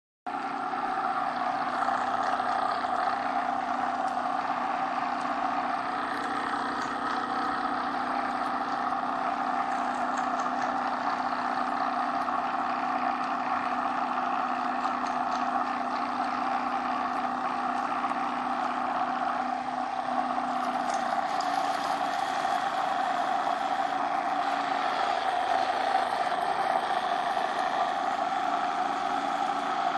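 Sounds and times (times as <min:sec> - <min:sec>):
electric pump humming and whining: 0:00.3 - 0:29.9.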